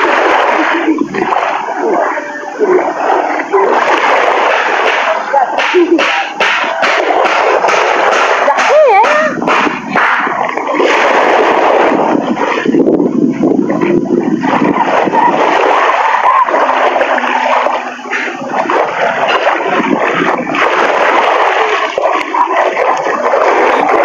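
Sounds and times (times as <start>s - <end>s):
water splashing in shallows: 0.0s - 24.0s
waves breaking on shore: 0.0s - 24.0s.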